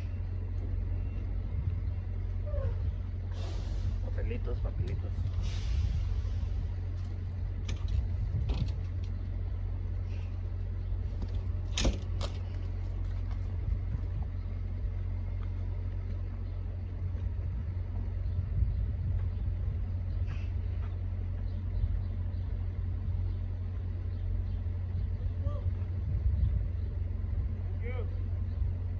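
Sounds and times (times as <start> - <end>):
diesel truck engine rumbling: 0.0 - 28.9.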